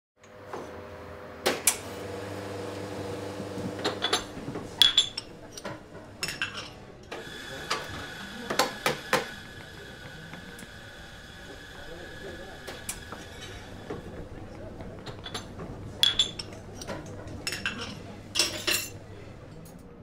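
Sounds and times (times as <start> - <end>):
steady background hum: 2.8 - 20.0
crockery and cutlery clinking: 3.6 - 20.0.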